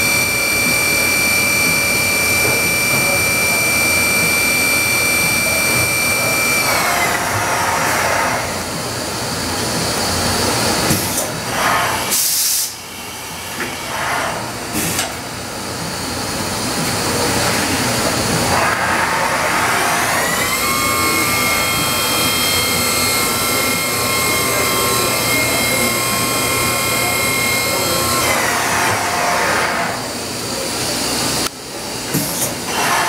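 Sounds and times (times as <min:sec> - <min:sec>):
machine spindle whine: 0:00.0 - 0:33.0.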